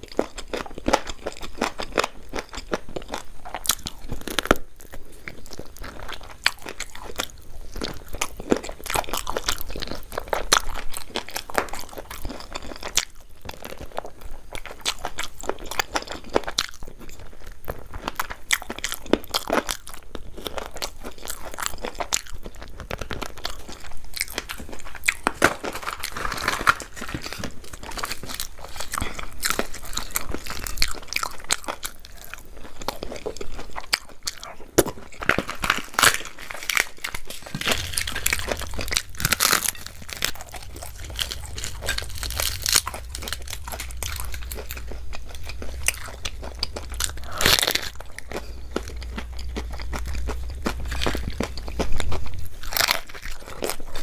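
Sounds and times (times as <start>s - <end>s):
person crunching food: 0.0s - 54.0s.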